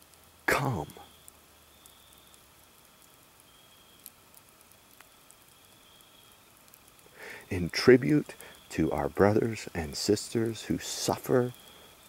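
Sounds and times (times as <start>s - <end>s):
faint hiss: 0.0s - 12.0s
tiny ticks: 0.0s - 12.0s.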